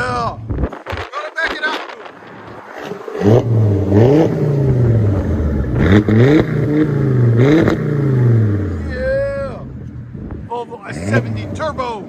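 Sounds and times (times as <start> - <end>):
car engine revving: 0.6 - 12.0.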